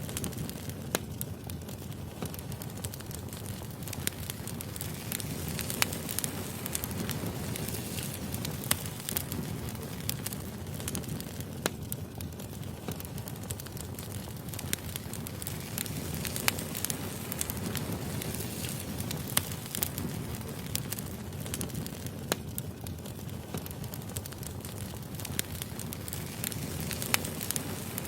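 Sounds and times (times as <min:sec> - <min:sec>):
firewood crackling and popping: 0:00.0 - 0:28.0
wood fire burning: 0:00.0 - 0:28.0.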